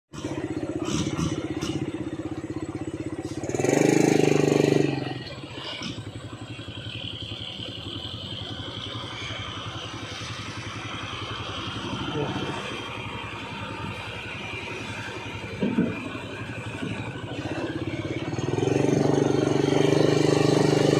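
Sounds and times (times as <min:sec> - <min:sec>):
truck diesel engine throbbing: 0:00.1 - 0:20.9.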